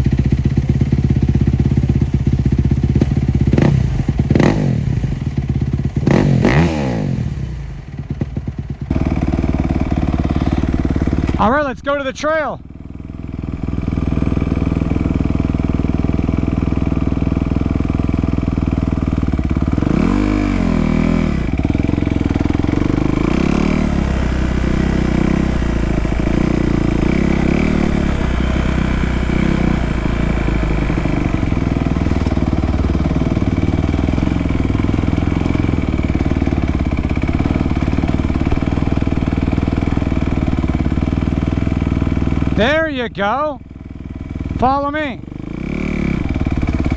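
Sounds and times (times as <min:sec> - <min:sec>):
dirt bike engine revving: 0:02.9 - 0:05.2, 0:06.0 - 0:08.0, 0:08.9 - 0:46.9.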